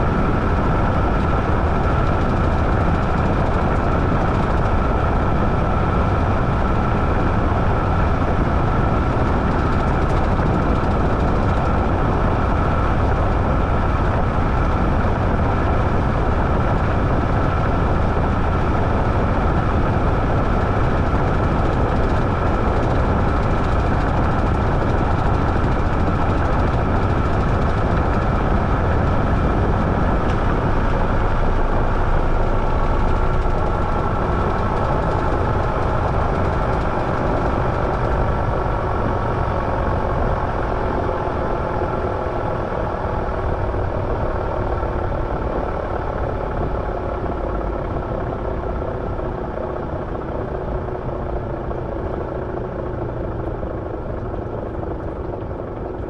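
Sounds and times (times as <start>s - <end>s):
washing machine whirring: 0.0s - 56.0s.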